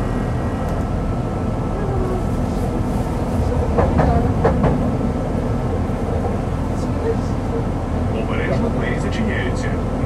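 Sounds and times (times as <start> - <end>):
tram wheels rumbling on rail: 0.0 - 10.0.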